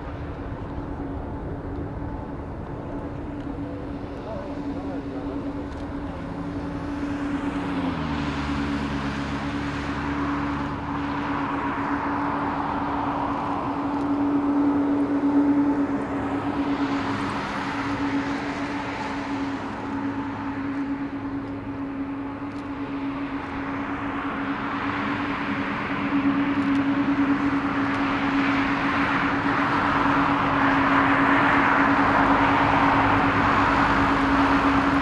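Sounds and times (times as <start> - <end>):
jet engines droning: 0.0 - 35.0.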